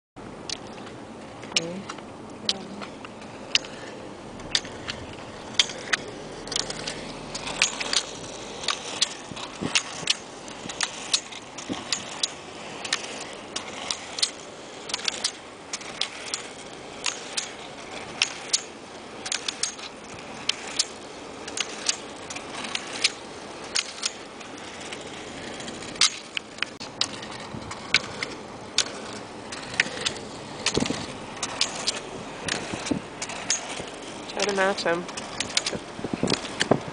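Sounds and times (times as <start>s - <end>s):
ski pole tips clicking on asphalt: 0.4s - 36.9s
car road noise hiss: 2.0s - 19.3s, 20.0s - 33.2s.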